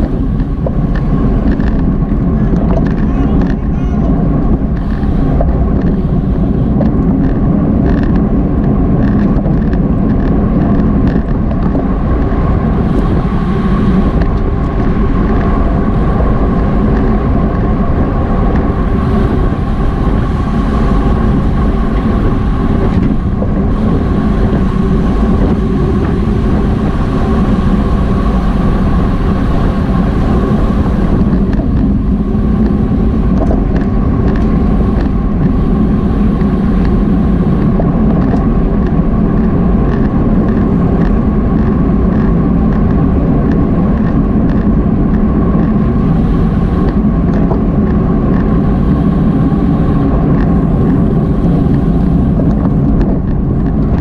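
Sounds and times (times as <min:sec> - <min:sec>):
bicycle tyre and drivetrain noise: 0:00.0 - 0:54.0
wind buffeting microphone: 0:00.0 - 0:54.0.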